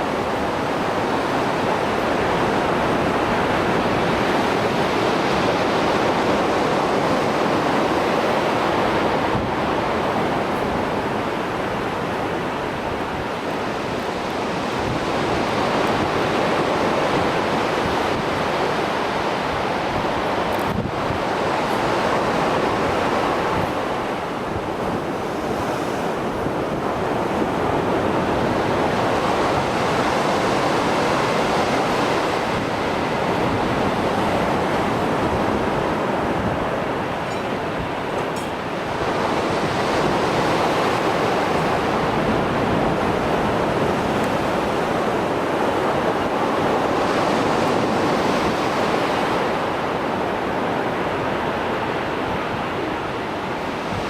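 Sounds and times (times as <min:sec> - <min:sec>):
rough surf waves breaking: 0:00.0 - 0:54.0.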